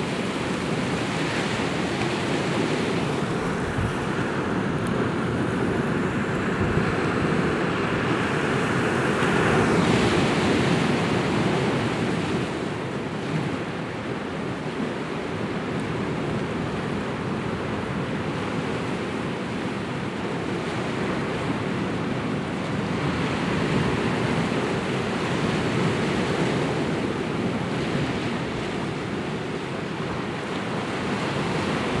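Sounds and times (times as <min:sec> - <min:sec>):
waves breaking on rocky shore: 0:00.0 - 0:32.0.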